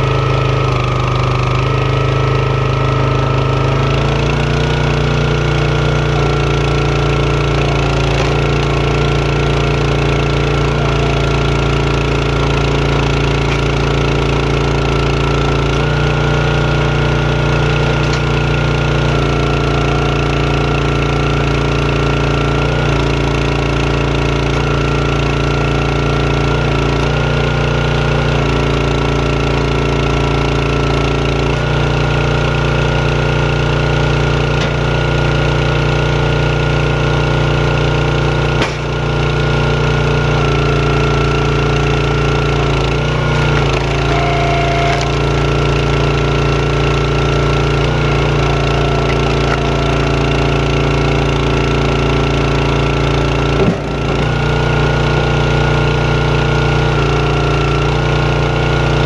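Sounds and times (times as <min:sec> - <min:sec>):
log splitter engine running: 0:00.0 - 0:59.0.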